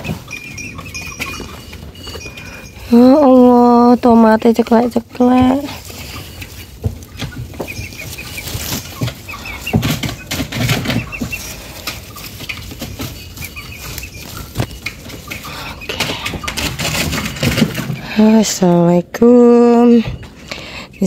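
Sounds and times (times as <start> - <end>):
plant stems and leaves rustling: 0.0 - 20.4
chickens clucking and chirping: 0.0 - 21.0.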